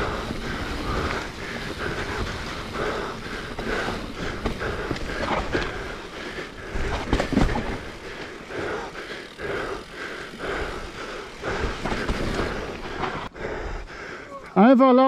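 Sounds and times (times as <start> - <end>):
bike tyres rolling over ground: 0.0 - 13.3
bike rattling: 0.0 - 14.4.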